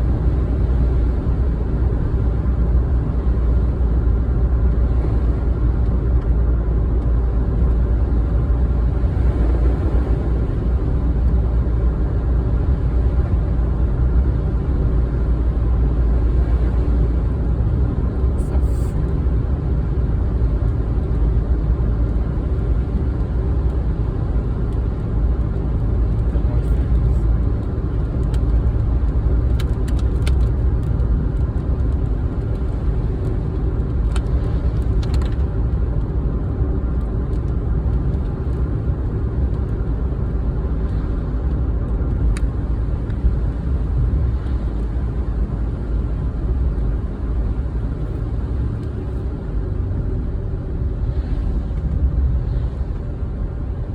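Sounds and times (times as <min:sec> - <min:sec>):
car driving road noise: 0:00.0 - 0:53.9.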